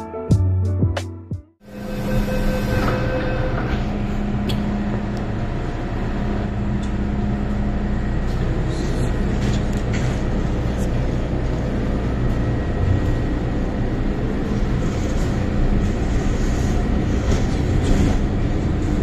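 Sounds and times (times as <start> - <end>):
metro carriage hum and rumble: 1.6 - 19.0.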